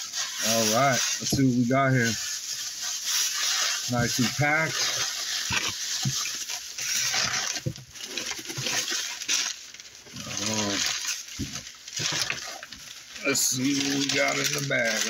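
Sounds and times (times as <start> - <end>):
packing material rustling: 0.0 - 15.0.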